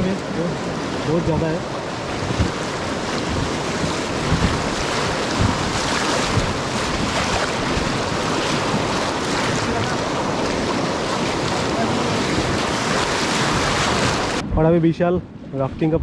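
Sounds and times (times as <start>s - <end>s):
paddle splashing: 0.0s - 14.4s
river water rushing against raft: 0.0s - 14.4s
wind buffeting microphone: 0.0s - 16.0s.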